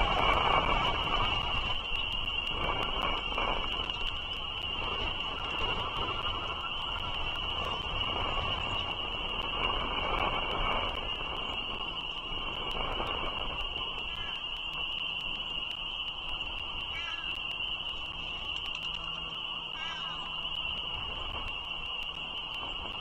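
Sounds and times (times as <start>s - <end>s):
high-pitched frog chorus: 0.0s - 23.0s.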